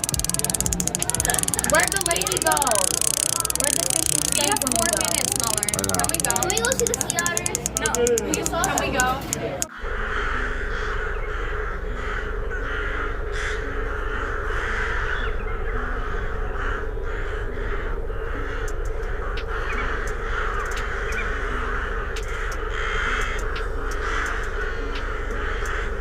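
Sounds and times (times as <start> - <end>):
bird calls: 0.0 - 9.6, 10.4 - 26.0.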